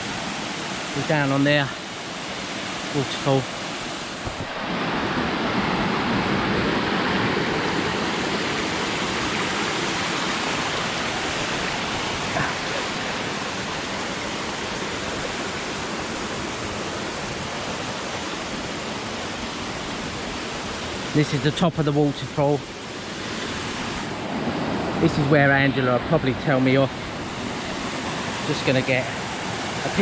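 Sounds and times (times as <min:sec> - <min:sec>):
waterfall rushing and splashing: 0:00.0 - 0:30.0.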